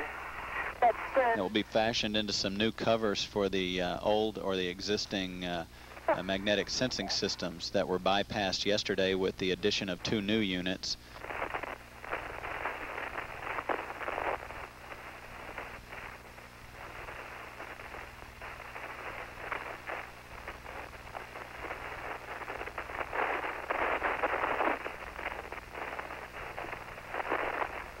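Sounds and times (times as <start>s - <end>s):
low electrical hum: 0.0s - 28.0s
radio static and hiss: 0.0s - 28.0s.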